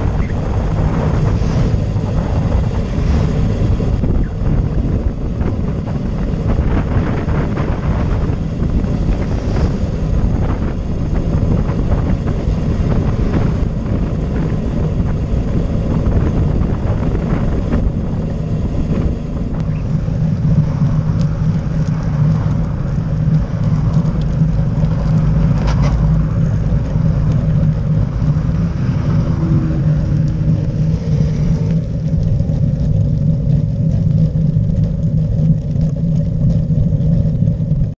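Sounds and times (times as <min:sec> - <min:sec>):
car passing engine hum: 0:00.0 - 0:05.5, 0:06.6 - 0:34.8
tyre noise on asphalt: 0:00.0 - 0:37.9
wind over microphone: 0:00.0 - 0:37.9.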